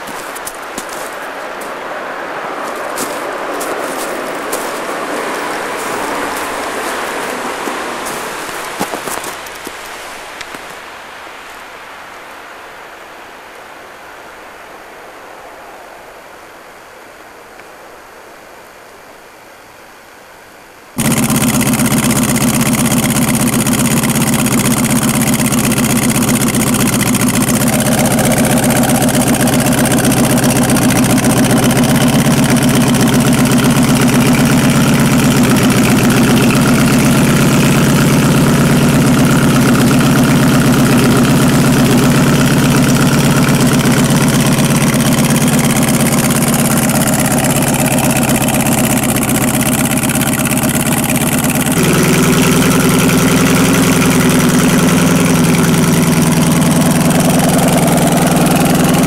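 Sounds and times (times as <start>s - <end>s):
snowmobile engine idling: 0.0s - 11.7s, 21.0s - 59.0s.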